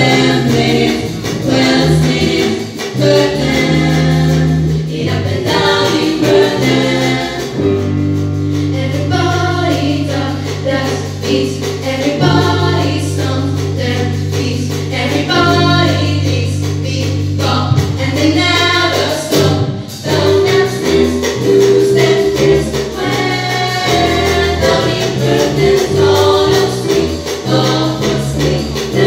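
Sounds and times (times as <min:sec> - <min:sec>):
female voices singing in harmony: 0:00.0 - 0:07.9, 0:08.6 - 0:29.0
drum kit: 0:00.0 - 0:29.0
electric bass notes: 0:00.0 - 0:29.0.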